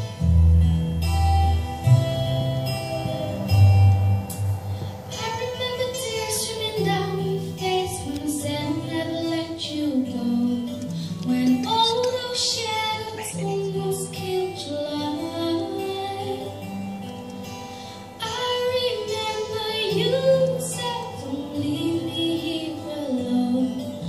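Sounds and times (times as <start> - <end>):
soft instrumental accompaniment: 0.0 - 24.0
woman singing into microphone: 2.4 - 4.3, 5.1 - 16.8, 18.2 - 24.0.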